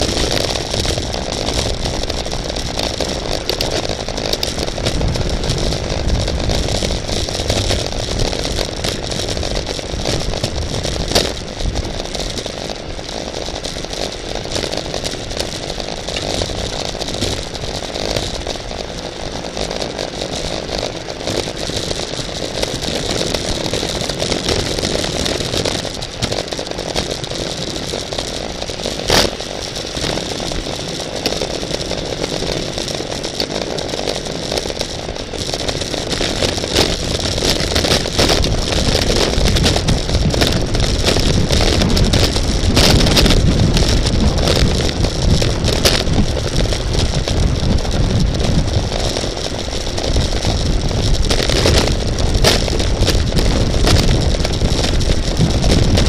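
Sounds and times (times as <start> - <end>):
bicycle clicks and rattles: 0.0 - 56.0
wind on microphone: 0.0 - 56.0.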